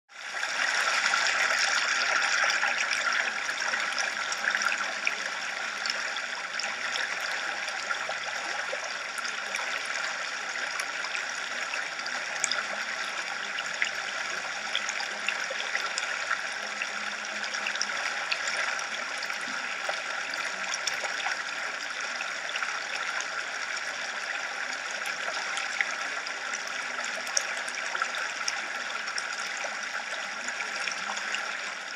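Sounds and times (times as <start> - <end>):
running water rushing: 0.1 - 31.9.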